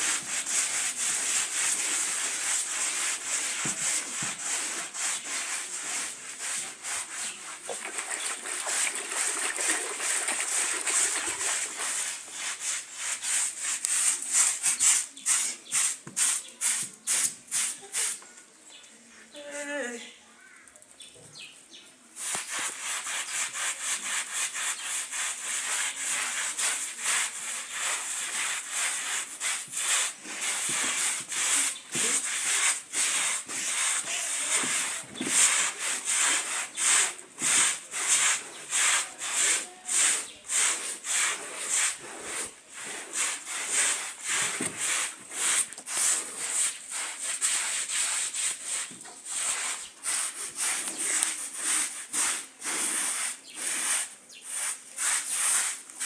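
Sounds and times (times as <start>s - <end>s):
carpet scrubbed by hand: 0.0s - 18.2s, 22.2s - 56.0s.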